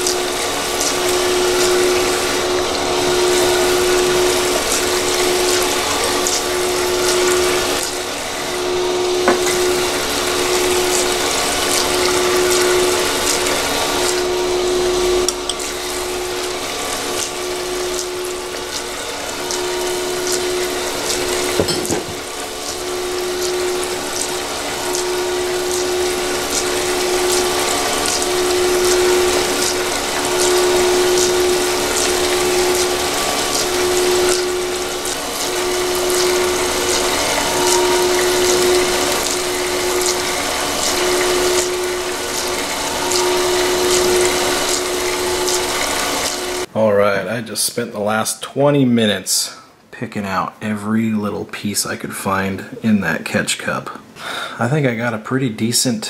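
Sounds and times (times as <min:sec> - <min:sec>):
motor hum: 0:00.0 - 0:46.7
water splashing into tub: 0:00.0 - 0:46.7.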